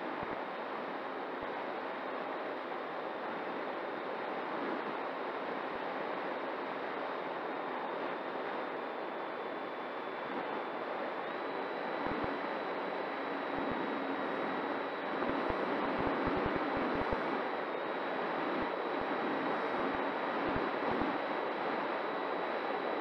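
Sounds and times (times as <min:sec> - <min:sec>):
wind and propeller noise: 0:00.0 - 0:22.9.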